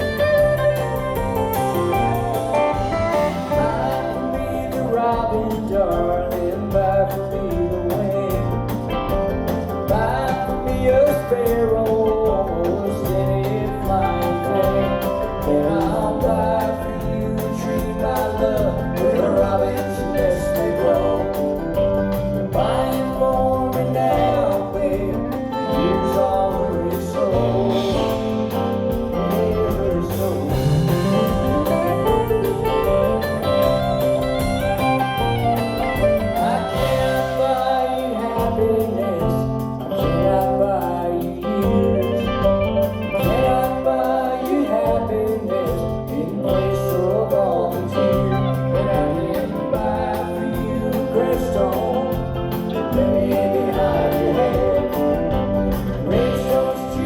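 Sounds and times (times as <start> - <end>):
country-folk band playing: 0.0 - 57.0
person singing: 0.0 - 57.0.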